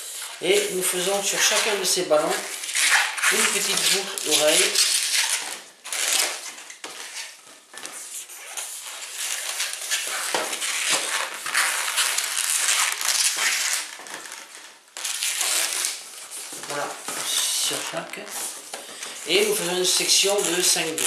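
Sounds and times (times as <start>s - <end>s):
balloons being rubbed and twisted: 0.0s - 21.0s.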